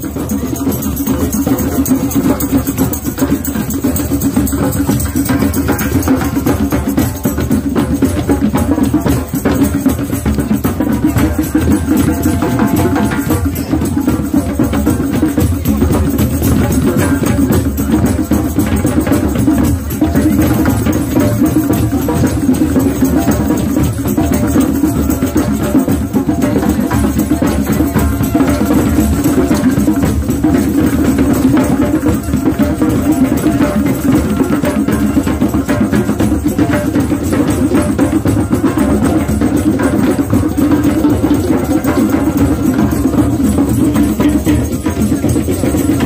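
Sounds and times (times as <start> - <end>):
fast dense drumming: 0.0 - 46.0.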